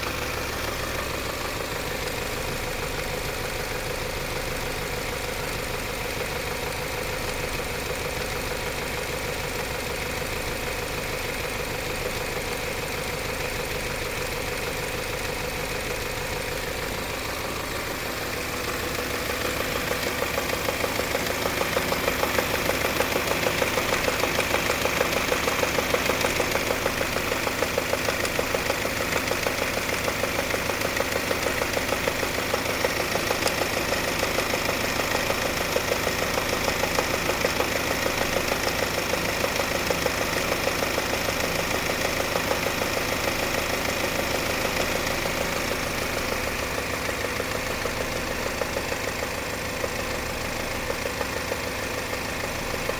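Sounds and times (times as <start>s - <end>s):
car engine idling: 0.0s - 52.9s
fast tapping engine knock: 6.0s - 52.9s.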